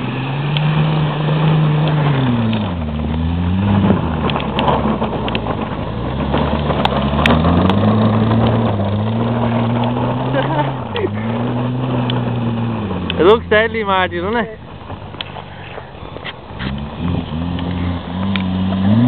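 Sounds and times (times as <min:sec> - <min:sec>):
car engine revving: 0:00.0 - 0:19.0
tyre and snow noise: 0:00.0 - 0:19.0.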